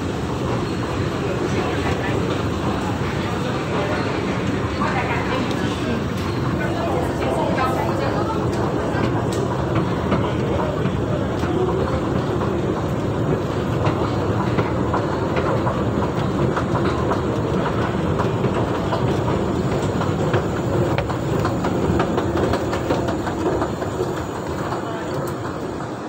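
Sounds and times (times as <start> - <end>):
escalator steps clicking: 1.6 - 25.8.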